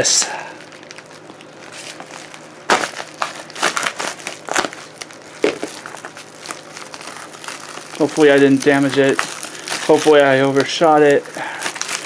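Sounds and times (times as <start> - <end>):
packaging crinkling and rustling: 0.6 - 12.0
package being cut: 1.7 - 12.0.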